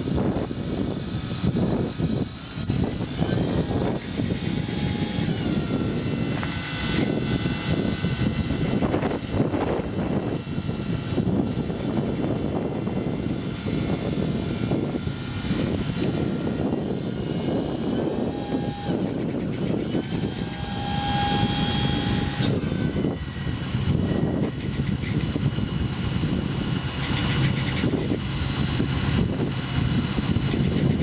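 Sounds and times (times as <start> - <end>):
hydraulic whine: 0.0 - 31.0
steady mechanical drone: 0.0 - 31.0.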